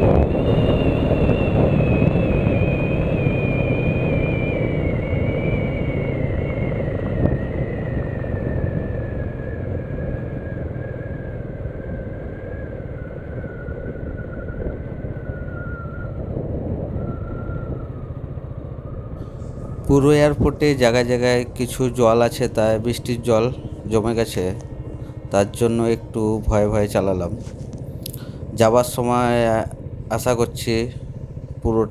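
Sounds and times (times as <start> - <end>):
motorcycle engine running: 0.0 - 31.9
thin whine falling in pitch: 0.0 - 31.9
wind noise: 0.0 - 31.9.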